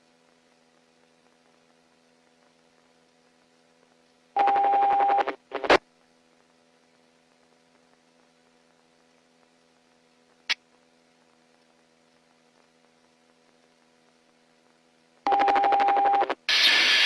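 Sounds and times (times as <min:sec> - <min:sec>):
radio electrical hum: 0:00.0 - 0:17.0.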